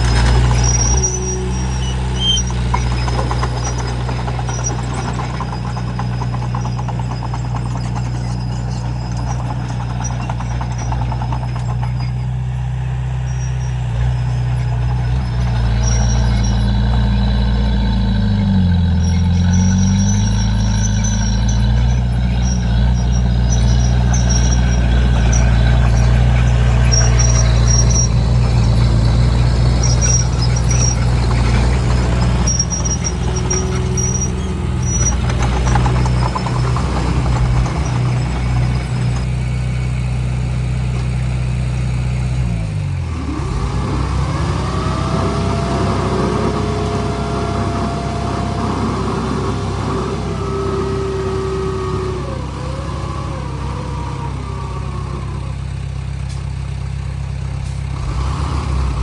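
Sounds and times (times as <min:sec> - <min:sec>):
high squeals: 0:00.0 - 0:39.3, 0:43.1 - 0:56.8
bulldozer diesel engine running: 0:00.0 - 0:59.0.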